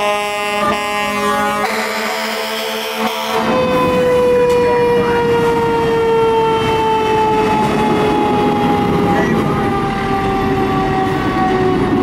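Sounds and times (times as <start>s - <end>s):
fire engine siren falling tone: 0.0s - 12.0s
fire truck engine rumble: 0.0s - 12.0s.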